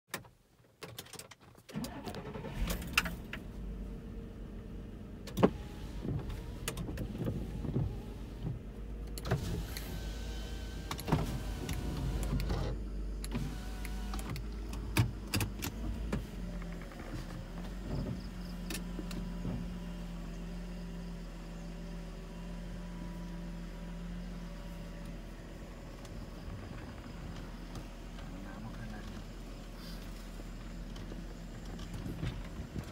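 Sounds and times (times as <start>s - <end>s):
engine and road rumble: 0.1s - 32.9s.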